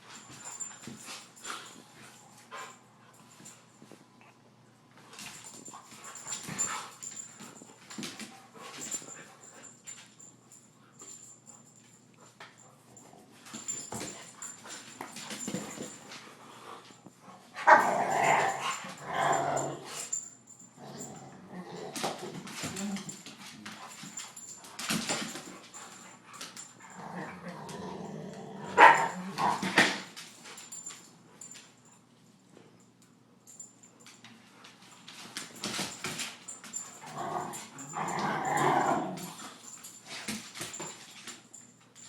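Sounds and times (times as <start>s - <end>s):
dogs playing: 0.0s - 42.0s.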